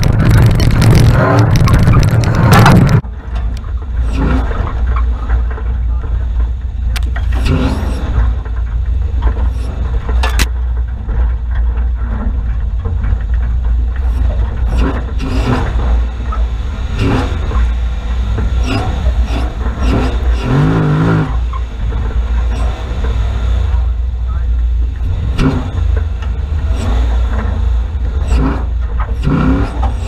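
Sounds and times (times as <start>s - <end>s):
low engine rumble: 0.0s - 30.0s
vehicle knocks and clatters: 0.0s - 30.0s.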